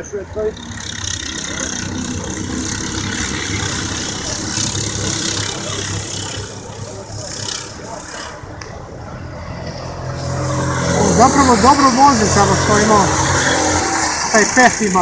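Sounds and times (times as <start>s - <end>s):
kart engines droning: 0.0s - 15.0s.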